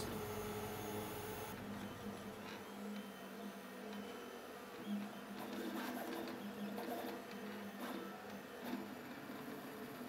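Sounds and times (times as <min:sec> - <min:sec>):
printer stepper motors whirring: 0:00.0 - 0:10.0.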